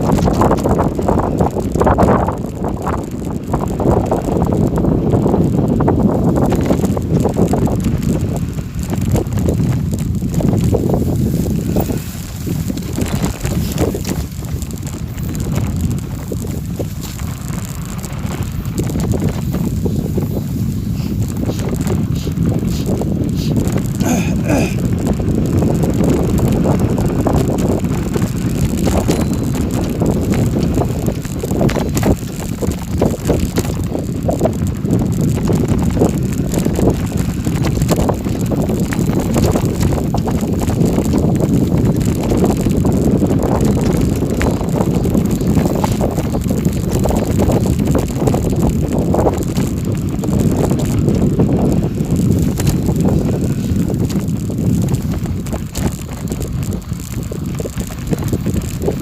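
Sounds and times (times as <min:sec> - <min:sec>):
bicycle tyres on gravel: 0:00.0 - 0:59.0
small rattles: 0:00.0 - 0:59.0
wind noise on microphone: 0:00.0 - 0:59.0.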